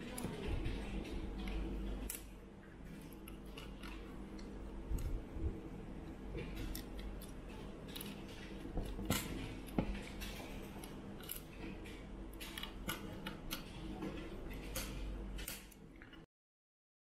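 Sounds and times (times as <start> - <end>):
faint steady hum: 0.0 - 16.3.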